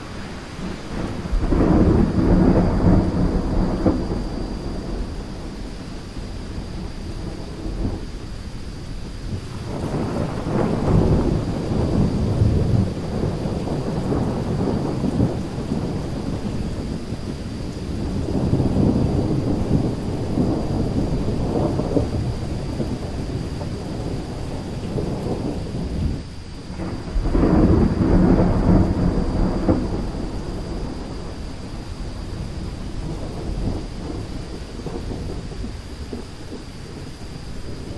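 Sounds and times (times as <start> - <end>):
steady rain hiss: 0.0 - 37.9
thunder rumbling: 0.0 - 37.9.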